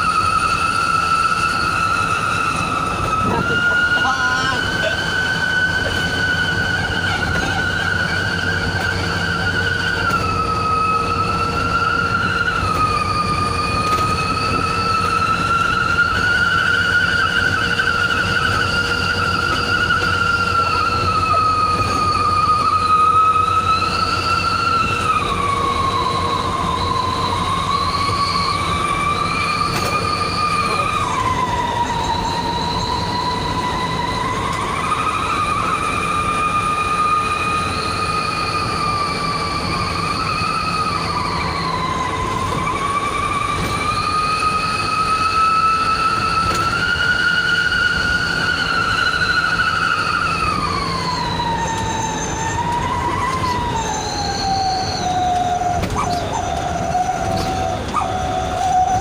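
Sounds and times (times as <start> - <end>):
diesel engine drone: 0.0 - 59.0
exhaust whistle howling: 0.0 - 59.0.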